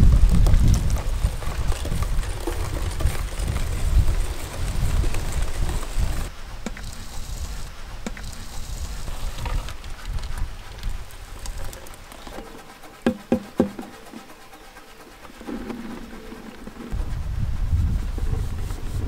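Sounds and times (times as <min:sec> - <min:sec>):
whisk beating batter in steel bowl: 0:00.6 - 0:17.0.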